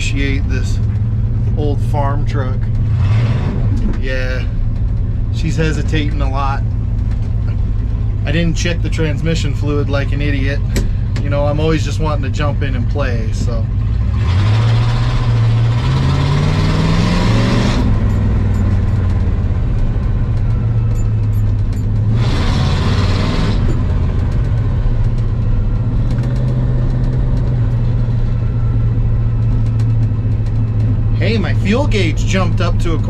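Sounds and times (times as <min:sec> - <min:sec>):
pickup truck engine running: 0:00.0 - 0:33.0.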